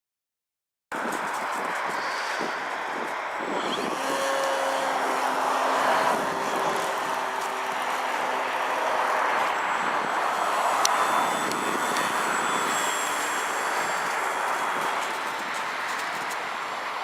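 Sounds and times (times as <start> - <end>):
faint high whine: 1.0 - 17.0
model airplane propeller drone: 1.0 - 17.0.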